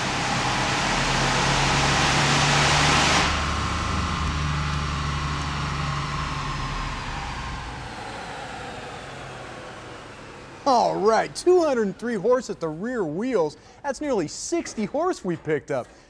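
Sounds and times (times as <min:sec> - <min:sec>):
engine at full throttle: 0:00.0 - 0:13.2
falling whine of winding down: 0:00.0 - 0:13.6.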